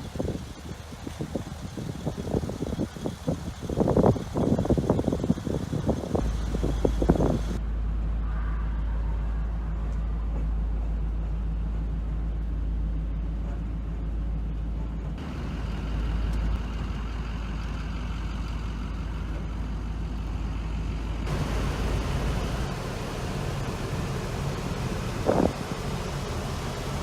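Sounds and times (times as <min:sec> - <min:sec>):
truck engine rumbling: 0:00.0 - 0:27.0.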